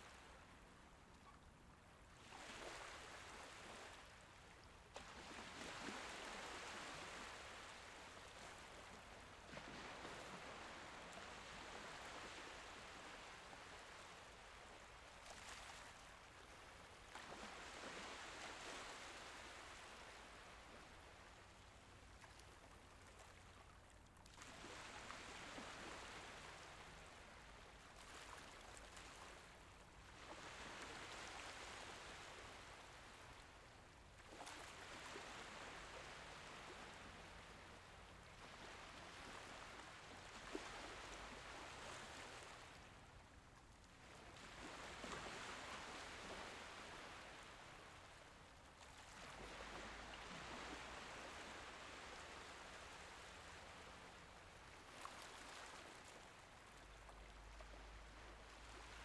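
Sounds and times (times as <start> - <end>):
gentle sea waves washing: 2.1 - 59.0.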